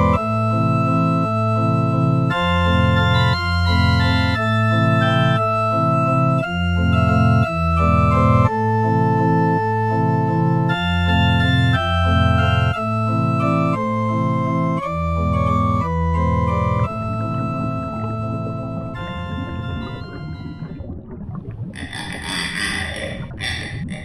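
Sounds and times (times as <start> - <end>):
organ-like keyboard chords: 0.0 - 20.8
bass line: 1.8 - 24.0.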